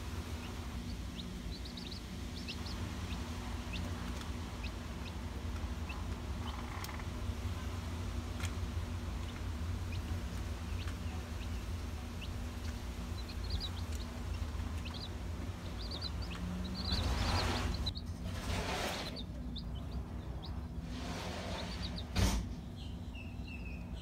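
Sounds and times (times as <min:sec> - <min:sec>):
baby chicks peeping: 0:00.0 - 0:24.0
low steady hum: 0:00.0 - 0:24.0.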